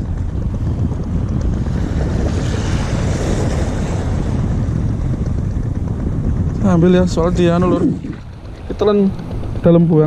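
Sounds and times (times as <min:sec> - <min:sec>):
sea waves washing: 0:00.0 - 0:10.0
wind buffeting microphone: 0:00.0 - 0:10.0.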